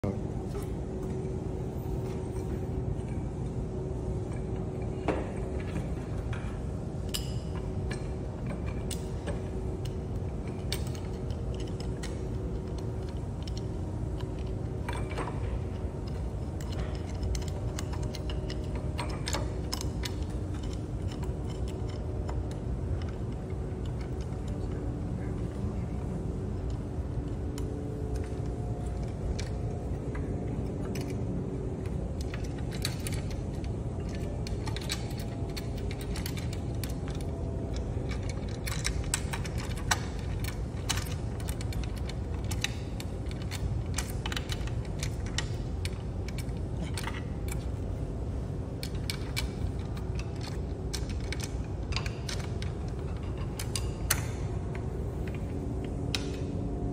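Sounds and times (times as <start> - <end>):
steady low hum: 0.0 - 56.9
metal tubes clicking and tapping: 4.2 - 25.6, 26.2 - 56.7.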